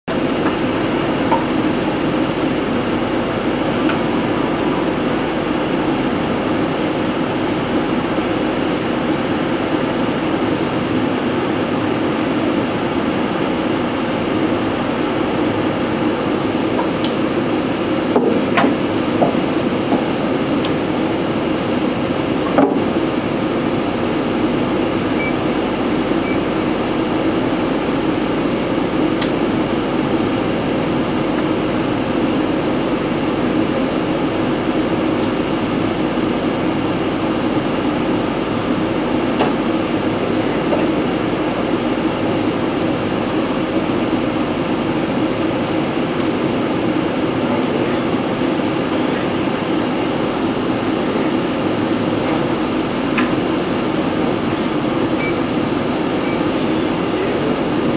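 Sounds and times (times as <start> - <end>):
loud machinery drone: 0.0 - 57.9.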